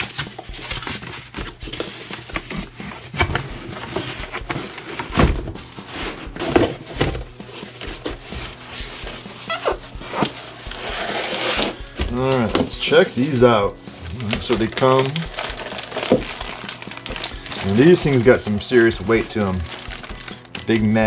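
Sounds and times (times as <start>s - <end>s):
cardboard scraping and rustling: 0.0s - 20.3s.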